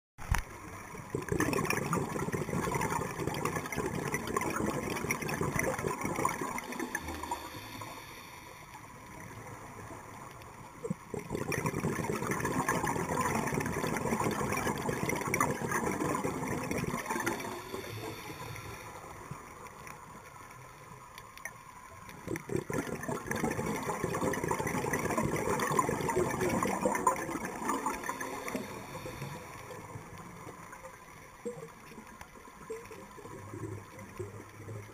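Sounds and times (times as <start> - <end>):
underwater exhaled bubbles gurgling: 0.2 - 34.9.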